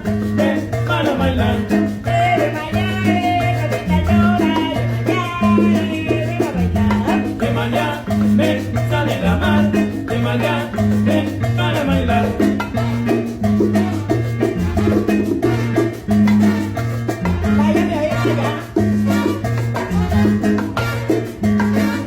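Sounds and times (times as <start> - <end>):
latin dance music over loudspeakers: 0.0 - 22.0.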